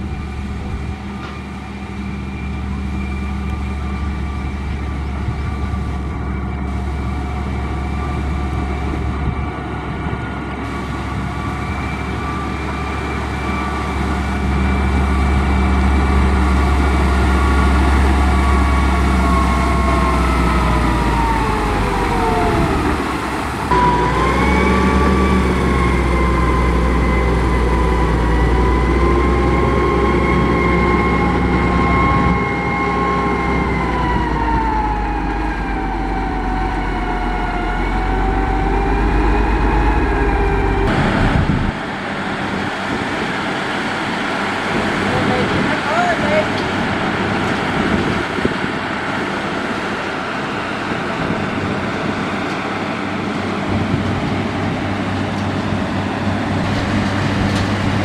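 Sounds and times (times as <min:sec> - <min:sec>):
diesel machinery rumbling and whining: 0:00.0 - 0:58.0.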